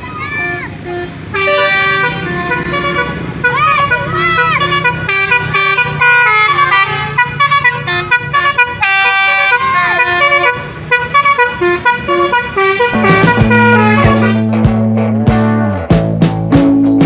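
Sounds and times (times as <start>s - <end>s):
musical vehicle horn tune: 0.3s - 17.0s.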